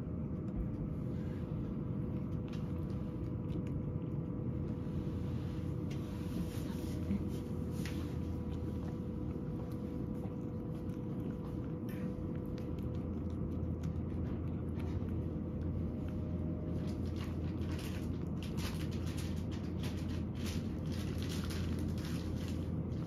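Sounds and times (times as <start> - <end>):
cat chewing food: 0.0 - 23.0
steady low hum: 0.0 - 23.0.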